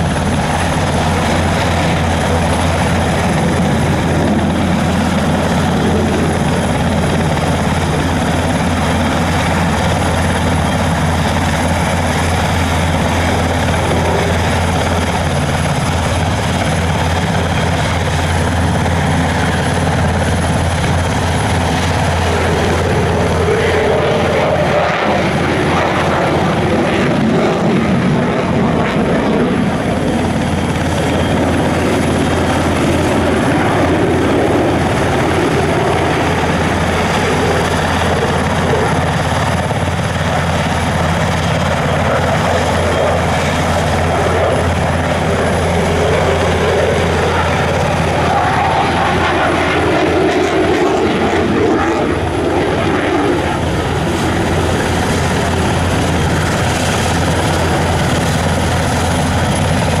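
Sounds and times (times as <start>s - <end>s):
helicopter engines droning: 0.0s - 60.0s
jet roar: 0.0s - 60.0s.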